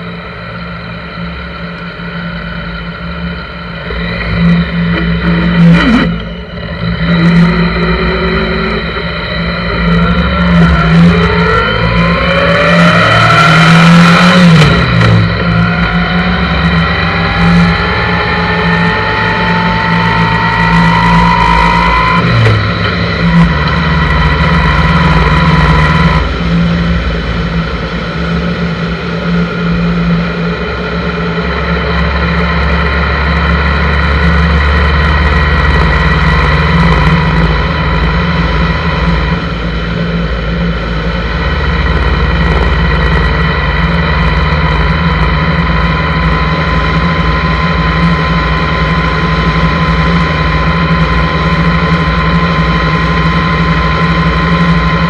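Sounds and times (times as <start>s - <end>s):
motorcycle engine running: 0.0s - 55.0s
steady whine: 0.0s - 55.0s.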